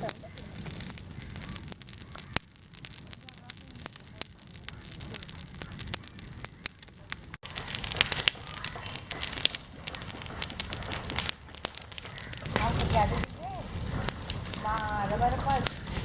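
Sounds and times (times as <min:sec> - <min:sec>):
open fire crackling: 0:00.0 - 0:16.0.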